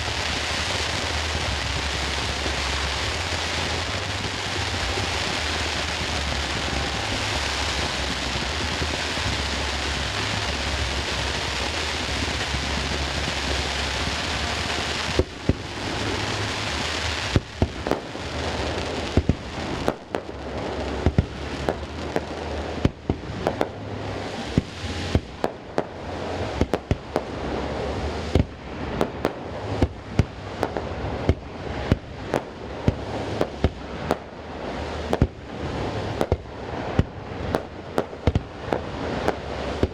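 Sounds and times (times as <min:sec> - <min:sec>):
fireworks bursting with echo: 0:00.0 - 0:39.9
steady rushing hiss: 0:00.0 - 0:39.9.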